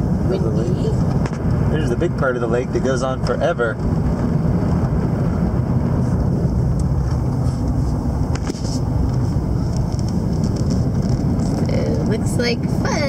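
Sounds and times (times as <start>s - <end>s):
truck cab road and engine rumble: 0.0s - 13.0s.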